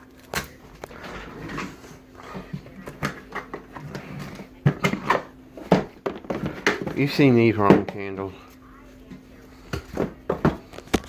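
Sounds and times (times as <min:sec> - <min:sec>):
faint steady hum: 0:00.0 - 0:11.0
packages knocking and rustling: 0:00.1 - 0:08.1, 0:09.7 - 0:11.0.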